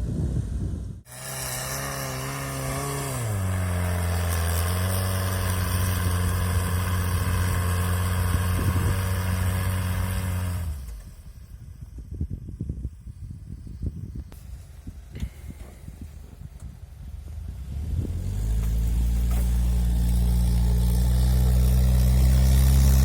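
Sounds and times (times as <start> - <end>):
engine running under load: 1.0 - 11.9, 14.5 - 23.0.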